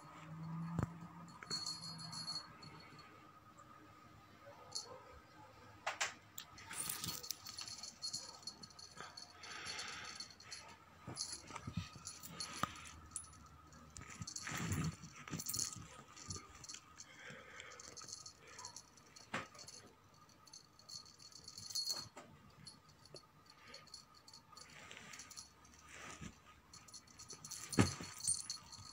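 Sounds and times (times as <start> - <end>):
cat toy rattling and jingling: 0.1 - 3.1, 6.5 - 28.9.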